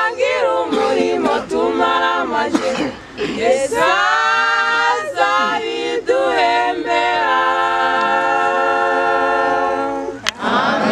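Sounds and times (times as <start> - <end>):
women singing a cappella: 0.0 - 10.9.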